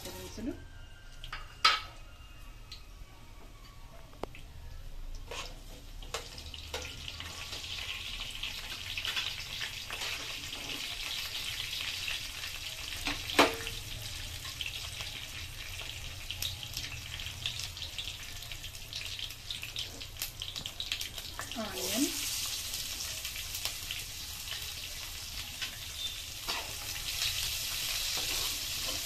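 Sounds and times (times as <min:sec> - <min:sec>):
spices sizzling in hot oil: 0:00.0 - 0:02.8, 0:04.2 - 0:29.0.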